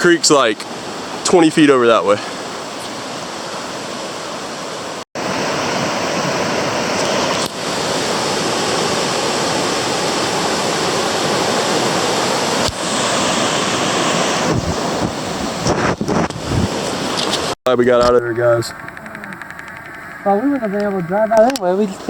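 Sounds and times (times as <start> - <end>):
flood water rushing: 0.0 - 22.0.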